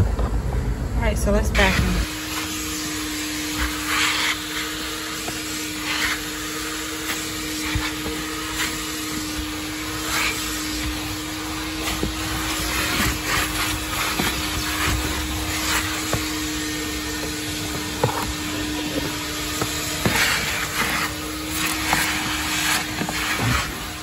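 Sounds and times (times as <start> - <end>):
vacuum running on carpet: 1.3 - 24.0
vacuum sucking up debris: 1.6 - 24.0.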